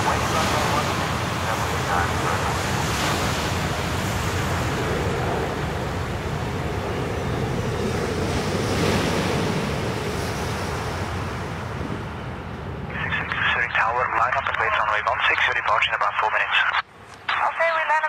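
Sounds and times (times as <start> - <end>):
jet engines roaring overhead: 0.0 - 18.0.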